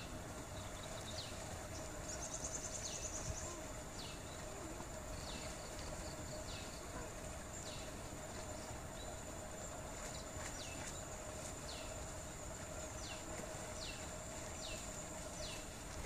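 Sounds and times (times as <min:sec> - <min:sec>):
background hiss: 0:00.0 - 0:16.0
high insect drone: 0:00.0 - 0:16.0.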